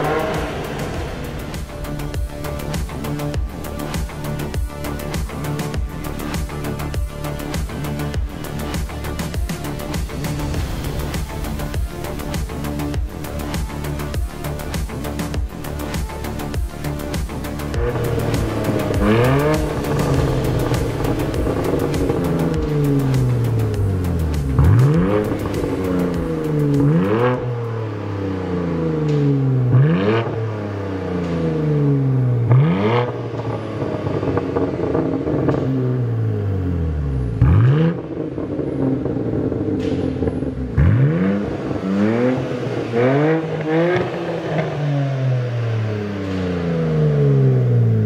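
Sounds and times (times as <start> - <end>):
engine revving blips: 0.0 - 7.0, 16.5 - 48.0.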